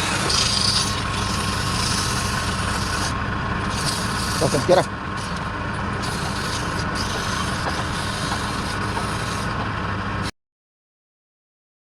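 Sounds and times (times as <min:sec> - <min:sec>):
wood lathe humming: 0:00.0 - 0:09.6.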